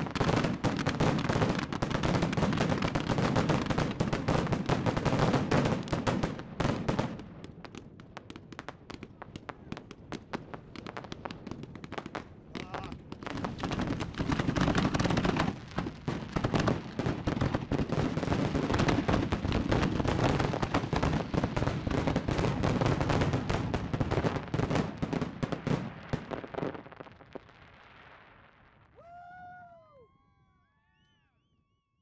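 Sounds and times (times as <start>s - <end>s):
fireworks bursts and bangs: 0.0s - 29.3s.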